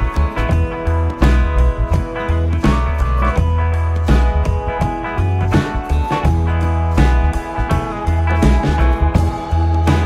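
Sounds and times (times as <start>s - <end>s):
blues rock guitar music: 0.0s - 10.0s.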